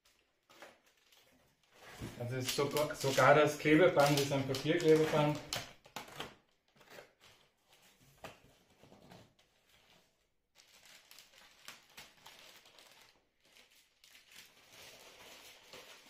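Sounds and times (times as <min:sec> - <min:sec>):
cardboard packaging rustling: 0:00.0 - 0:16.0.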